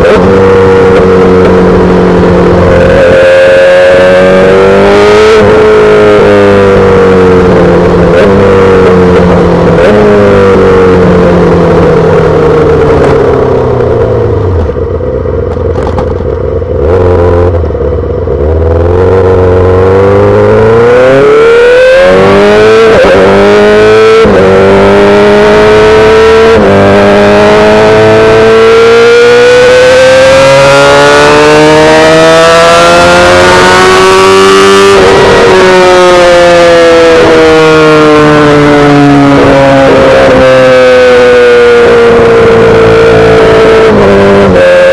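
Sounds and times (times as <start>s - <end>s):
motorcycle accelerating through gears: 0.0s - 44.9s.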